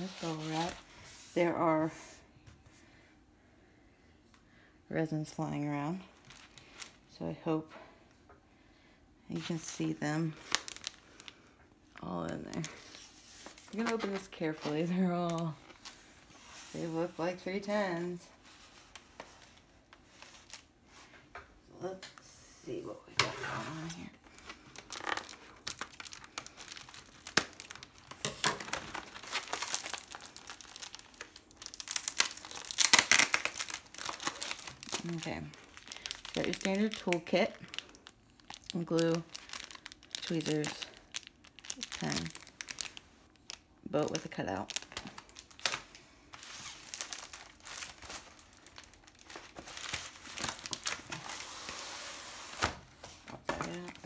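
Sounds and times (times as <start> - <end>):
bubble wrap crinkling: 0.0 - 1.8, 5.8 - 7.2, 9.3 - 21.1, 23.5 - 54.0.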